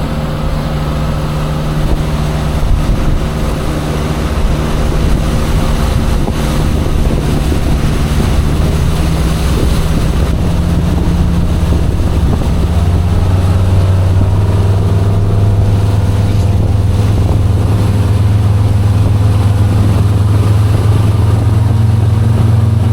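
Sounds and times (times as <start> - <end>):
motorboat engine running: 0.0 - 22.9
water rushing: 0.0 - 22.9
wind rushing: 0.0 - 22.9.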